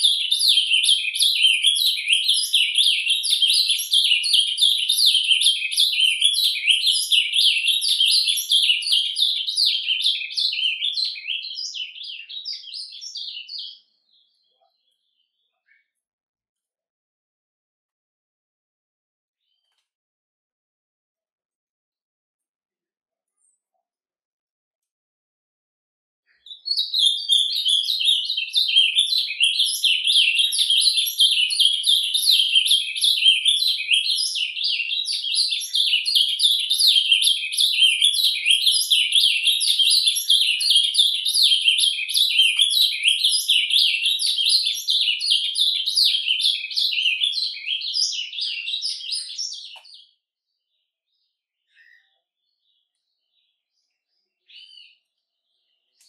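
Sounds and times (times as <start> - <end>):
bird twittering warbled song: 0.0 - 16.0, 26.3 - 56.0
faint bird chirp: 0.0 - 16.0, 26.3 - 56.0.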